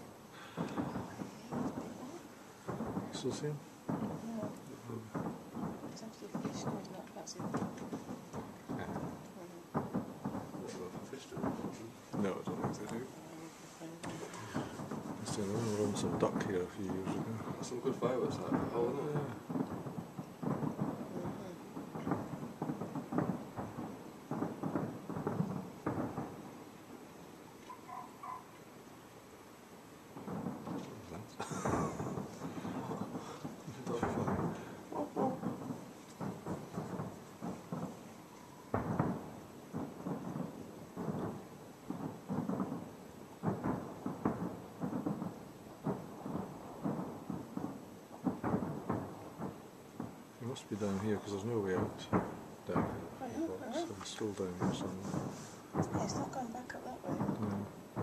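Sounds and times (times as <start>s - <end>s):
distant fireworks bursting: 0.0s - 58.0s.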